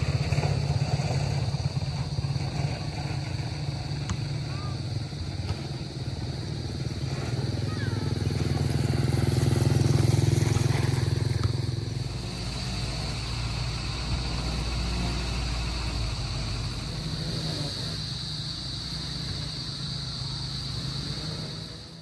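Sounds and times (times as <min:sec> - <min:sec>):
motorcycle passing by: 0:00.0 - 0:22.0.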